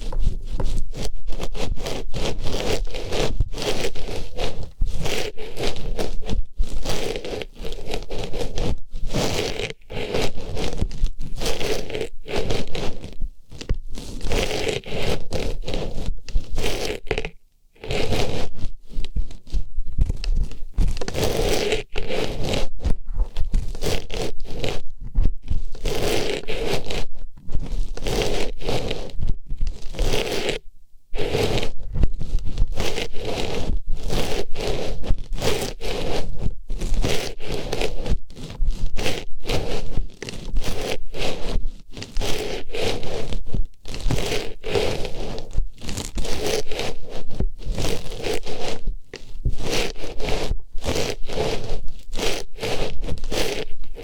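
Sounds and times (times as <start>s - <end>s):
close scraping and rustling in ear: 0.0s - 54.0s.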